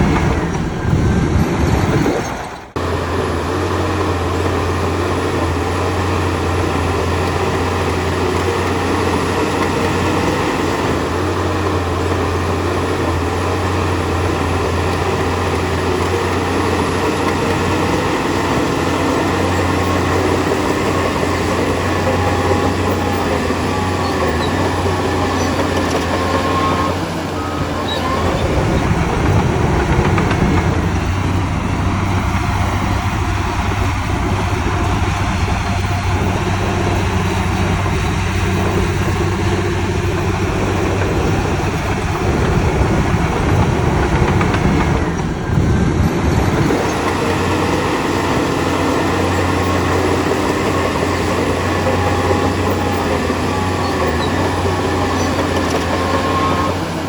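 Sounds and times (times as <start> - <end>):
heavy machinery engine drone: 0.0 - 57.0.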